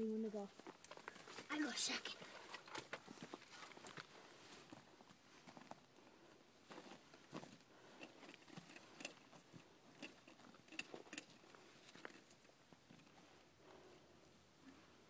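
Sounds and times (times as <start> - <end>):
rustling and handling gear: 0.4 - 15.0.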